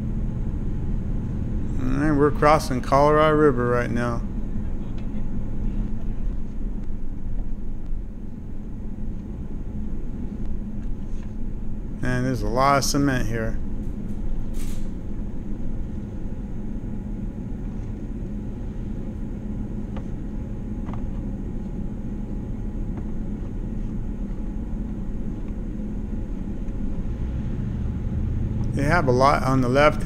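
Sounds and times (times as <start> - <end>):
car engine and tyres rumbling: 0.0 - 30.0.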